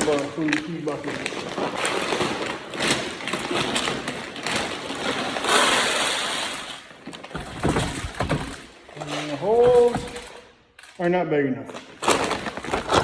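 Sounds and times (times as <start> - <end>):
plastic bucket scraping: 0.0 - 10.5.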